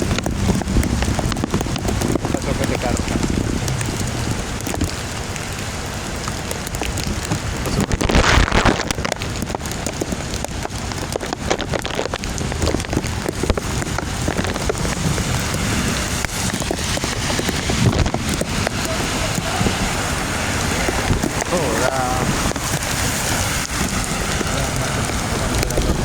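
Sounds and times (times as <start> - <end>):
heavy rain falling: 0.0 - 26.0
raindrops ticking close by: 0.0 - 26.0.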